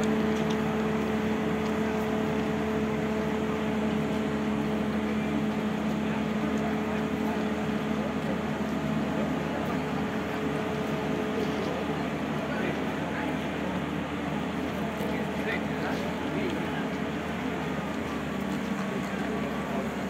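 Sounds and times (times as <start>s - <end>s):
crane engine and hydraulics drone: 0.0s - 20.0s.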